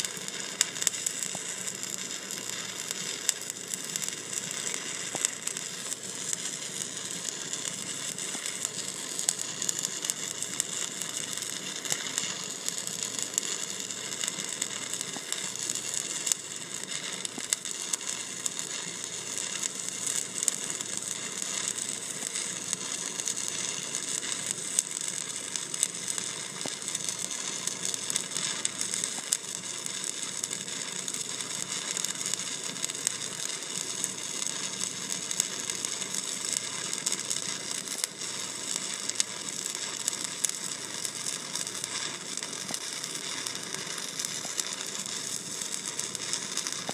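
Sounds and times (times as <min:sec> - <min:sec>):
welding arc crackling and sizzling: 0:00.0 - 0:46.9.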